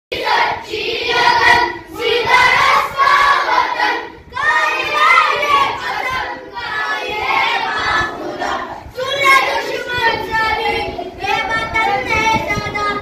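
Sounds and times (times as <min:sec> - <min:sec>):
boys singing in unison: 0:00.1 - 0:13.0.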